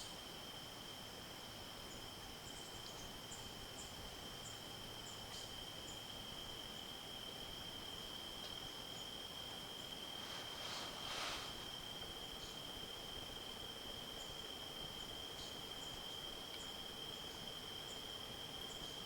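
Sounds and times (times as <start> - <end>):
insects trilling: 1.9 - 19.0.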